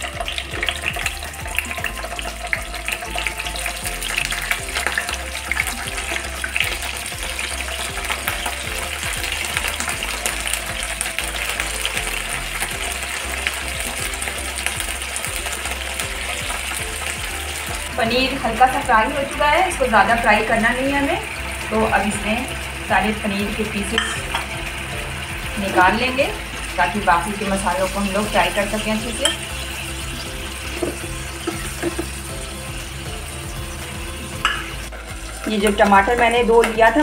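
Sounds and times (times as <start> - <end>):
food sizzling in oil: 0.0 - 37.0
oil spattering and crackling: 0.0 - 37.0.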